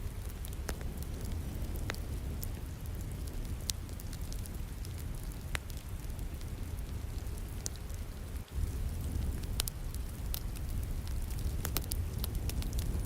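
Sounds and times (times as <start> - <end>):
falling rain hiss: 0.0 - 13.0
wood fire crackling: 0.0 - 13.0.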